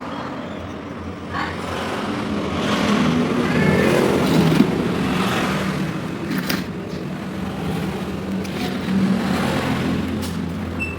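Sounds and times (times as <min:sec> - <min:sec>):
scooter engine revving: 0:01.8 - 0:10.9.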